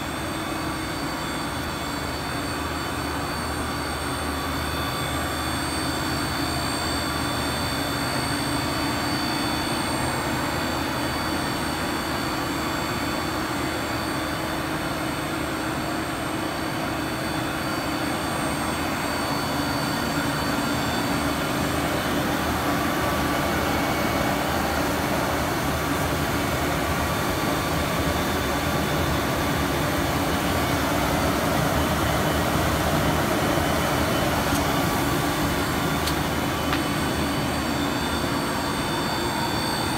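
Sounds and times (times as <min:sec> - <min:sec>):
blowers and motors whirring: 0:00.0 - 0:39.9
high machine whine: 0:00.0 - 0:39.9.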